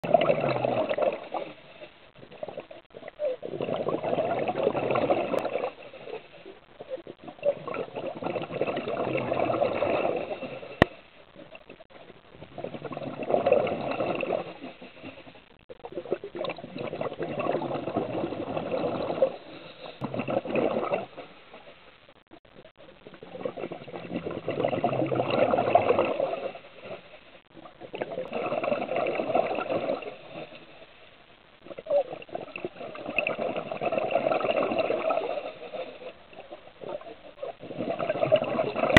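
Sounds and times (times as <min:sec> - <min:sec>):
regulator bubbles rushing underwater: 0:00.0 - 0:38.9.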